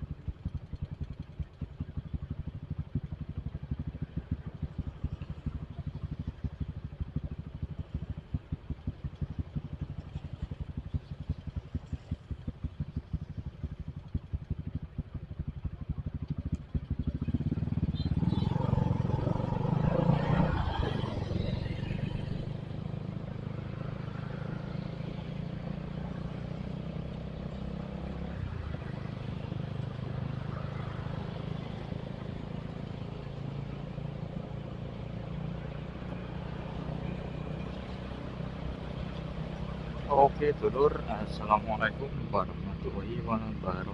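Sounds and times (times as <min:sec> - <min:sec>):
motorcycle engine idling and riding: 0:00.0 - 0:43.9.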